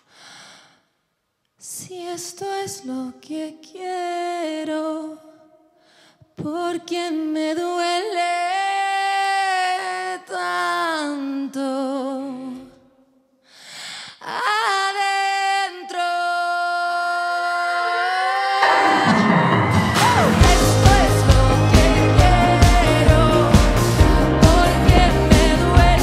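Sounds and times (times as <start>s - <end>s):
woman singing into microphone: 1.7s - 5.4s, 6.4s - 12.8s, 14.2s - 26.0s.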